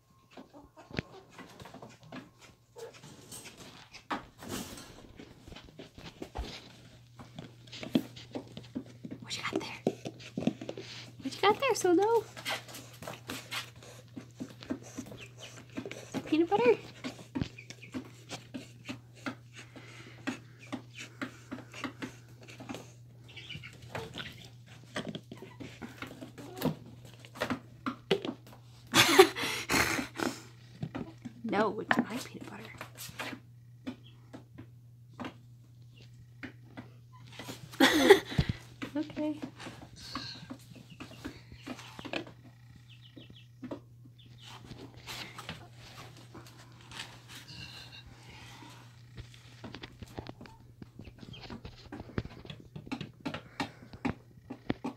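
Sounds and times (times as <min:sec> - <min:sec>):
steady low hum: 0:01.4 - 0:54.9.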